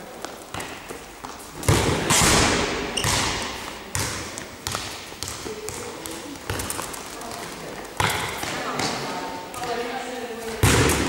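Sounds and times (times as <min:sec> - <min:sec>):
ball thuds echoing: 0:00.5 - 0:09.9, 0:10.5 - 0:11.0.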